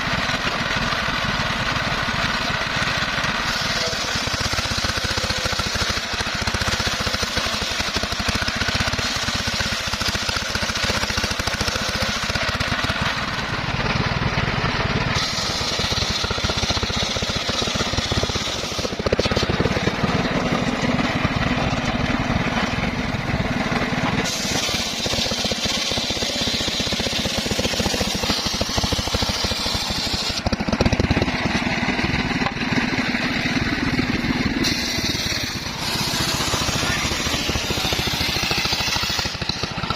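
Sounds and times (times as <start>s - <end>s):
circular saw cutting timber: 0.0s - 39.9s
engine chugging: 0.0s - 39.9s.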